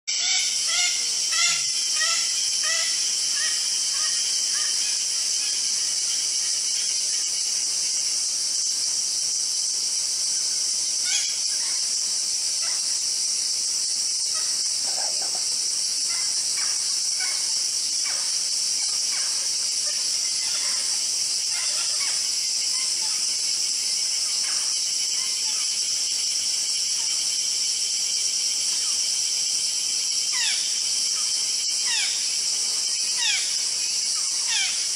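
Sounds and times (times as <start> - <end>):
forest insects chorus: 0.1 - 34.9.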